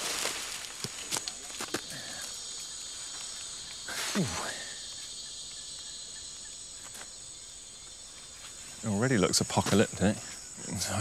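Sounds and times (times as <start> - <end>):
forest insects chorus: 0.0 - 11.0.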